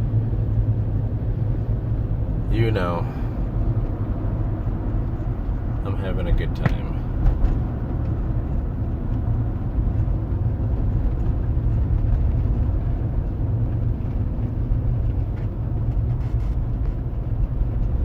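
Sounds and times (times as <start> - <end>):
car engine rumble: 0.0 - 18.0
road noise: 0.0 - 18.0.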